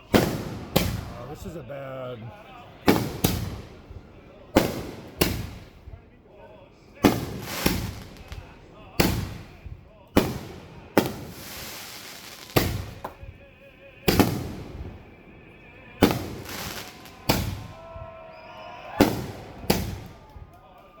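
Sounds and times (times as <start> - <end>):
fireworks booming: 0.0 - 20.8.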